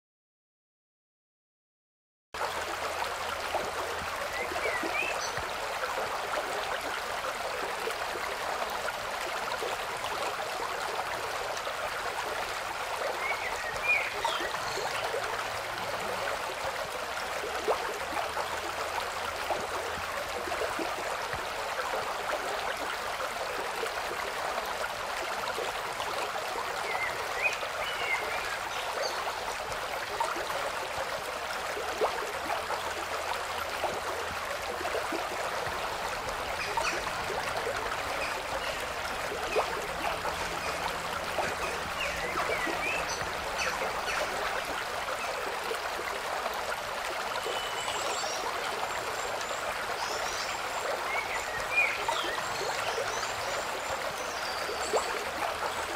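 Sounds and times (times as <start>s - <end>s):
rushing water noise: 2.4s - 55.9s.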